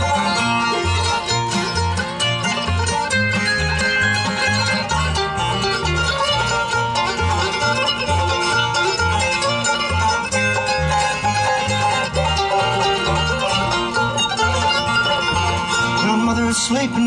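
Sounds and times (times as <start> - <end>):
acoustic guitar picking: 0.0 - 17.0
banjo: 0.0 - 17.0
mandolin: 0.0 - 17.0
walking bass: 0.0 - 17.0.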